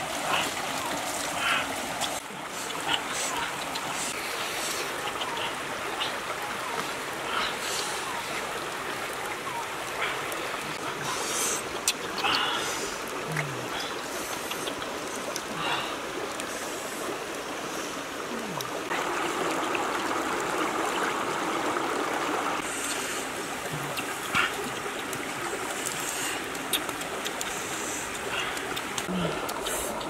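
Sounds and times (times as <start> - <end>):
water rushing in rocky stream: 0.0 - 30.0.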